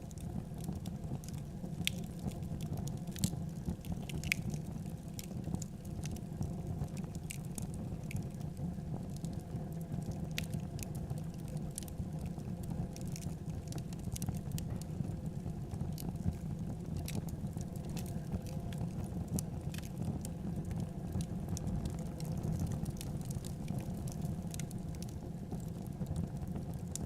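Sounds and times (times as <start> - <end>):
fire rumbling: 0.0 - 27.0.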